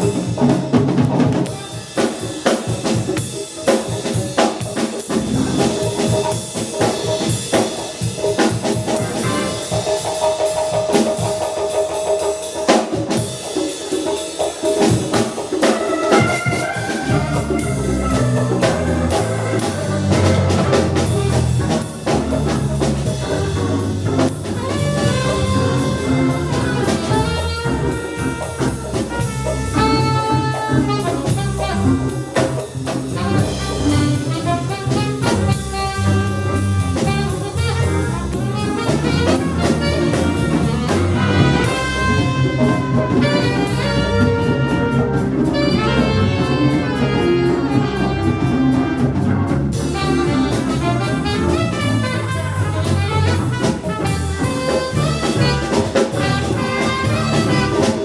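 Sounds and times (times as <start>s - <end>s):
jazz band playing: 0.0s - 58.0s
brass horns melody: 1.4s - 3.0s, 5.1s - 11.4s, 14.8s - 58.0s.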